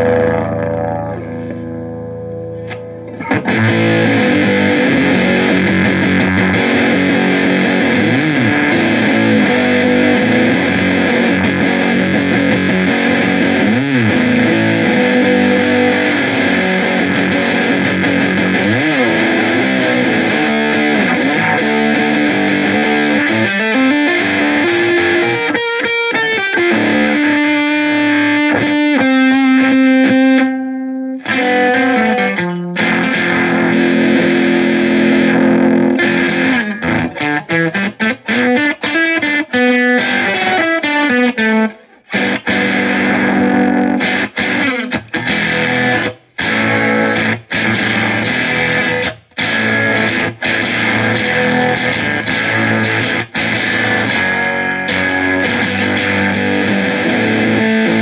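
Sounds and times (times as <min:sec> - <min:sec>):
fuzzed electric guitar riffing: 0:00.0 - 0:58.0
quick picked guitar notes: 0:00.0 - 0:58.0.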